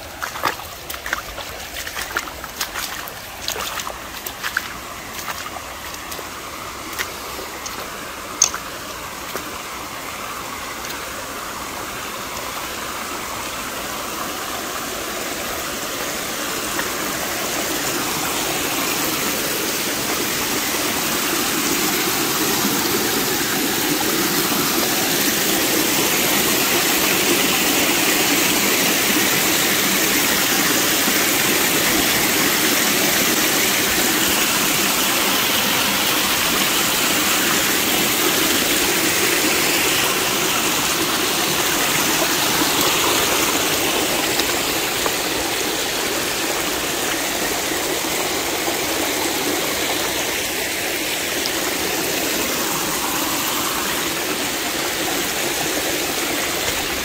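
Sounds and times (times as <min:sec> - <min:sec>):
creek water rushing: 0:00.0 - 0:57.0.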